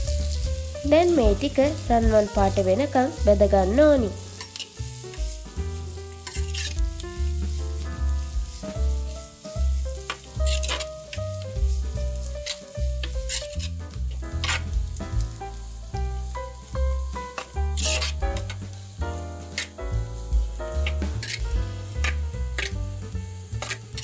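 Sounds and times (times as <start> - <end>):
background music with bass line: 0.0 - 24.0
onions sizzling in oil: 0.0 - 24.0
stirring scrapes in pan: 4.2 - 24.0.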